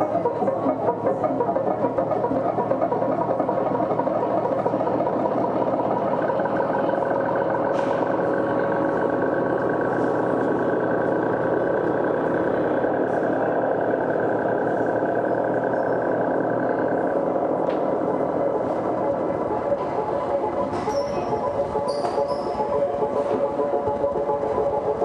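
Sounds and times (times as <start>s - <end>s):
droning noise music: 0.0s - 25.0s.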